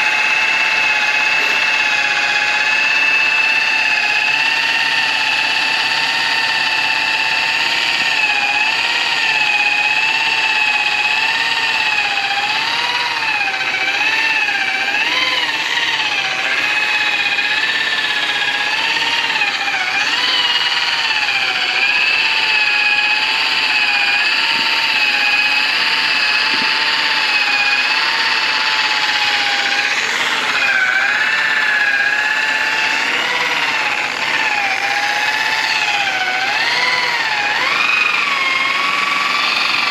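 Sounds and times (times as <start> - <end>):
electric polisher whining: 0.0 - 39.9.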